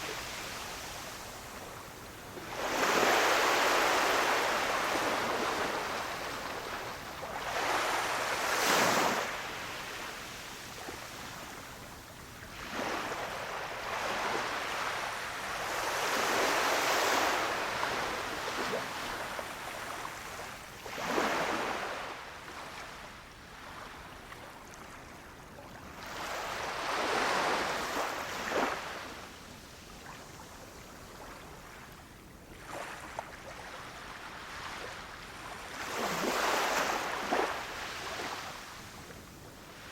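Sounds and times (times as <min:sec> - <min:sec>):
small waves breaking on a beach: 0:00.0 - 0:39.9.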